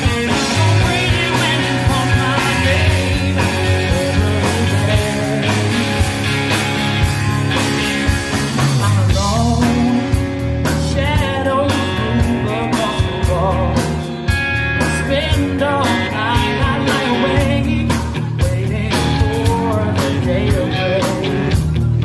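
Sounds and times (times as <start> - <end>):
man singing: 0.0 - 6.2, 8.8 - 14.2, 14.8 - 21.8
drum kit: 0.0 - 22.0
electric guitar: 0.0 - 22.0.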